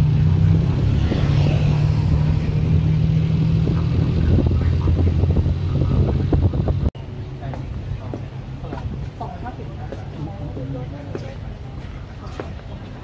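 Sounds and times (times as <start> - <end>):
street traffic noise: 0.0 - 13.0
vehicle engine droning: 0.0 - 13.0.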